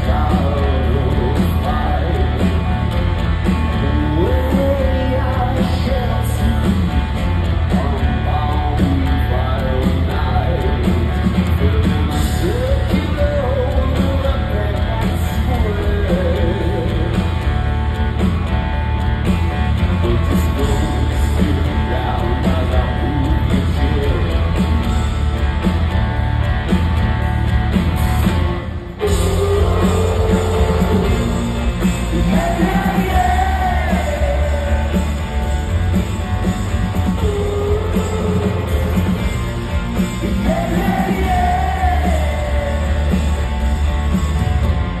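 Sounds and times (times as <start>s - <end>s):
sung vocals: 0.0s - 17.4s, 19.8s - 24.8s, 28.8s - 35.8s, 36.5s - 43.4s
bass: 0.0s - 45.0s
drums: 0.0s - 45.0s.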